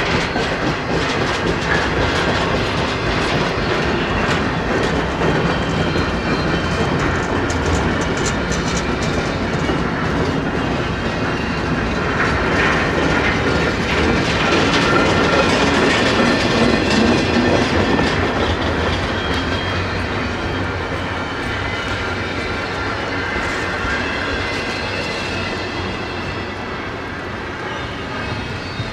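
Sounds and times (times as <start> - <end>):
train wheels rolling on rails: 0.0 - 28.9.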